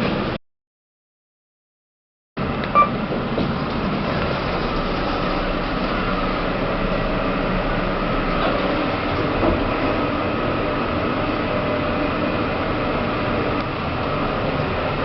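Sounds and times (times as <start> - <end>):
lift car rumbling and humming: 2.4 - 15.0.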